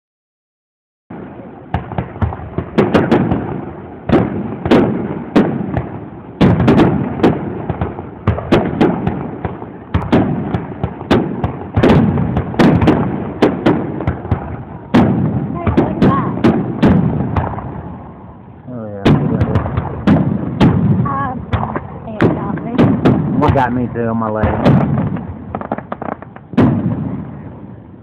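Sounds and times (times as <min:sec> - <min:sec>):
fireworks bangs with rumbling echo: 0:01.1 - 0:28.0.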